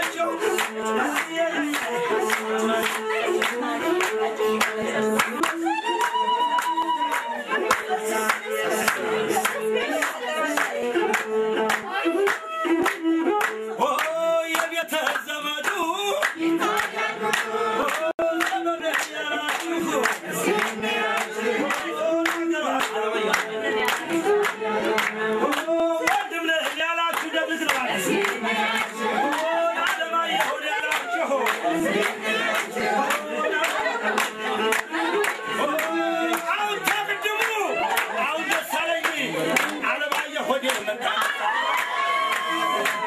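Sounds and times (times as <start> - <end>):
group of people singing: 0.0 - 43.0
hands clapping in rhythm: 0.0 - 43.0.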